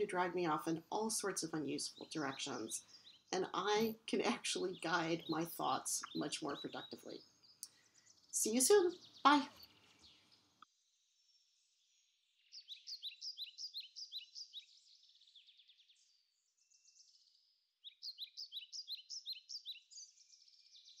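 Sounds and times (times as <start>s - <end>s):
songbird singing rapid chirps: 0.0s - 21.0s.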